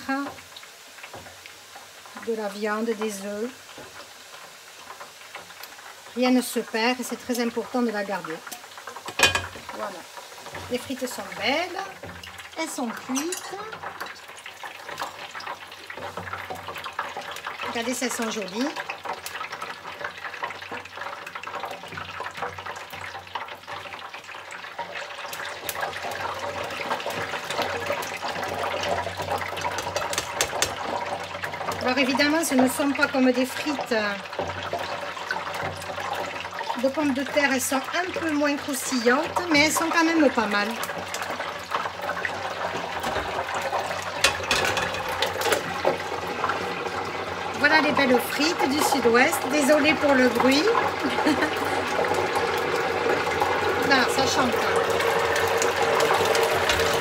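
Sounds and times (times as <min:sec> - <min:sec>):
hot oil sizzling and crackling: 0:00.0 - 0:57.0
oil dripping into fryer: 0:02.9 - 0:07.3, 0:08.2 - 0:57.0.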